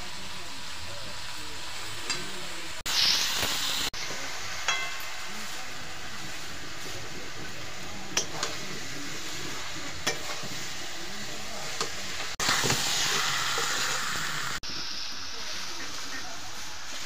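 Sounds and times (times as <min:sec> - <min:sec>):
chicken sizzling in a wok: 0:00.0 - 0:17.0.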